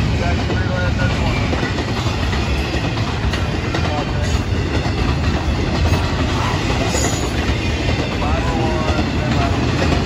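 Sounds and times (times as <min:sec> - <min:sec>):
freight train wheels on rails: 0:00.0 - 0:10.0.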